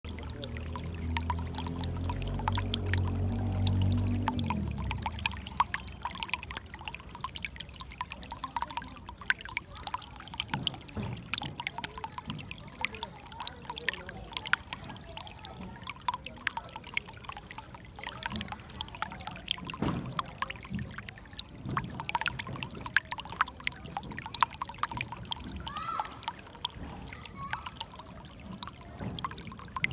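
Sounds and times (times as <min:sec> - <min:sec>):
shallow water trickling and babbling: 0:00.0 - 0:29.9.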